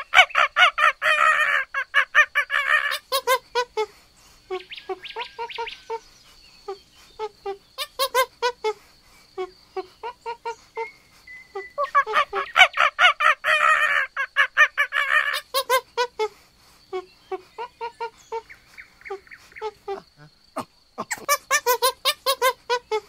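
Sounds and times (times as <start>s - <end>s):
monkeys chattering: 0.0s - 8.8s, 9.4s - 23.0s.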